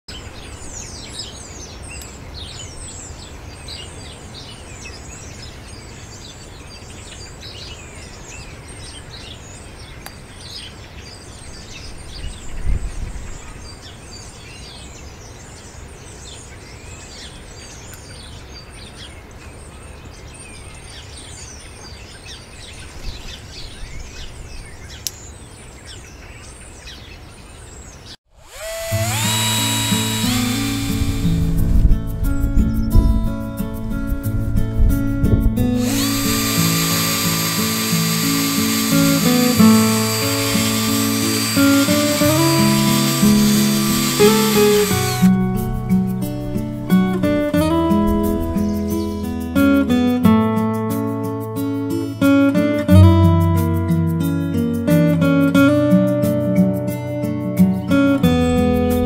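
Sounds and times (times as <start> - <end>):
songbirds chirping and trilling: 0.1 - 34.1, 35.6 - 53.4.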